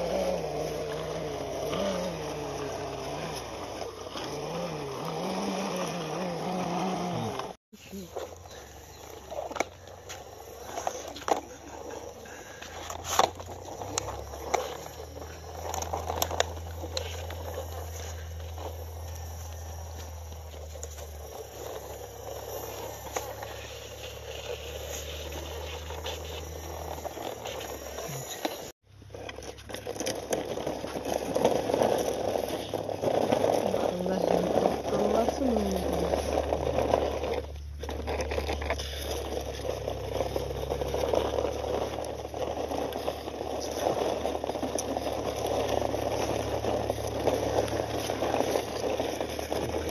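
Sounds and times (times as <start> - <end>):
plastic wheels rolling on concrete: 0.0 - 49.9.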